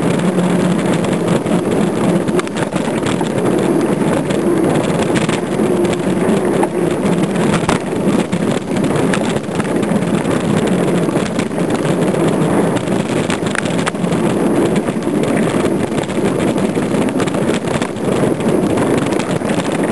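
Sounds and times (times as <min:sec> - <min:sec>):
bike rattles and knocks: 0:00.0 - 0:19.9
wind rushing over microphone: 0:00.0 - 0:19.9.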